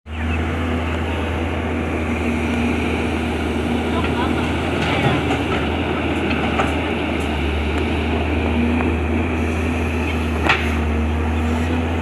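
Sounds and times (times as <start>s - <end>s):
excavator diesel engine running: 0.1s - 12.0s.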